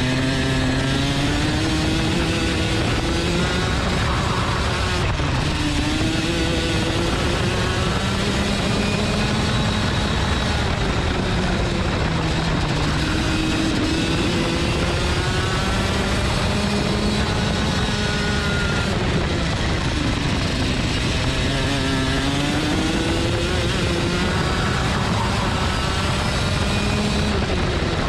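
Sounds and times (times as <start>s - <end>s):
go-kart engine running: 0.0s - 28.0s
steady rushing noise: 0.0s - 28.0s.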